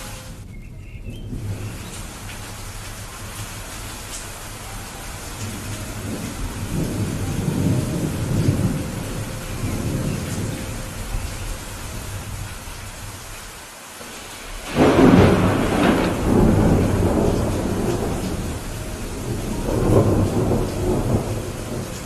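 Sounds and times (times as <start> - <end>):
rolling thunder rumble: 0.0 - 22.0
steady rain: 0.0 - 22.0.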